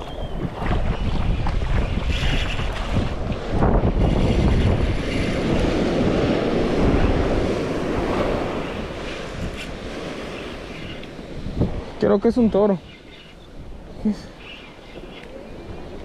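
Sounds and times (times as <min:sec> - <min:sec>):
ocean surf on sandy beach: 0:00.0 - 0:16.0
wind rumbling on microphone: 0:00.0 - 0:16.0.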